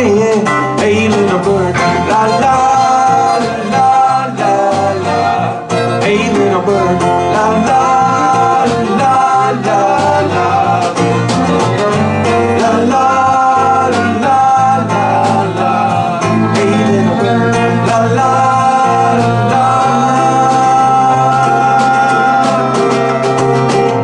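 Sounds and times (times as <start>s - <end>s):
acoustic and electric guitars: 0.0s - 24.0s
several voices singing: 0.0s - 24.0s.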